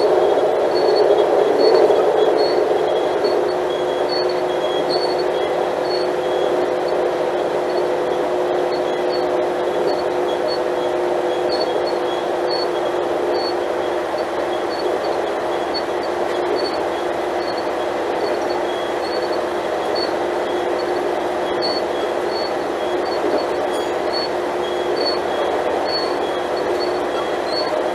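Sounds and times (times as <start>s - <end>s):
diesel train drone: 0.0s - 27.9s.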